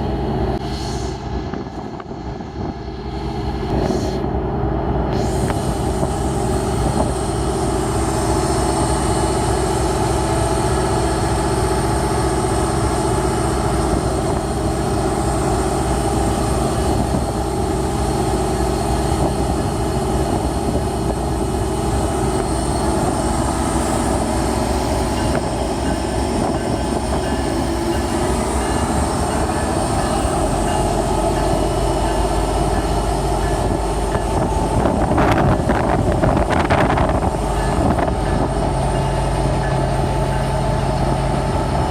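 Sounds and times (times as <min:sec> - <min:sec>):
diesel locomotive engine drone: 0:00.0 - 0:41.9
train rail noise: 0:00.0 - 0:41.9.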